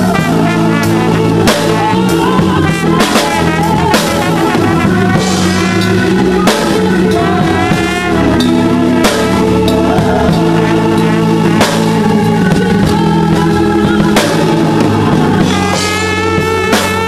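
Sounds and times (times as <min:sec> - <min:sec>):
drum kit: 0:00.0 - 0:17.0
trombone sustained notes: 0:00.0 - 0:17.0.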